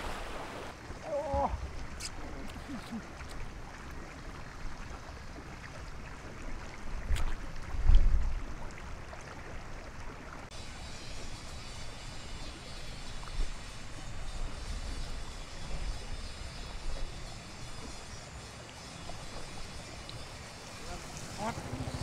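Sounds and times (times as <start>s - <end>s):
water sloshing and lapping: 0.0s - 22.0s.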